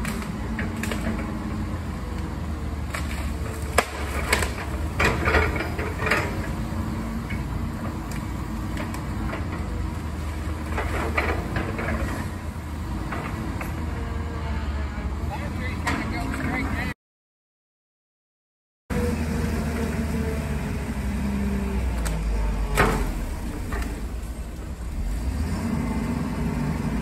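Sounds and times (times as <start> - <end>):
excavator engine droning: 0.0 - 16.9, 18.9 - 27.0.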